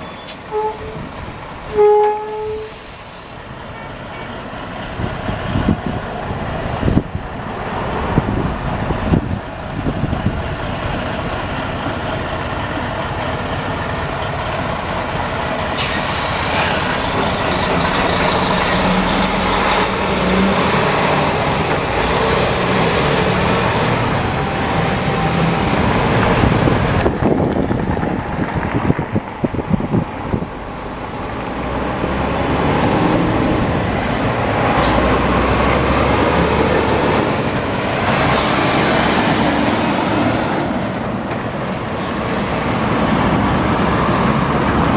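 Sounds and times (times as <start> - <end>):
diesel trucks driving past: 0.0 - 44.9.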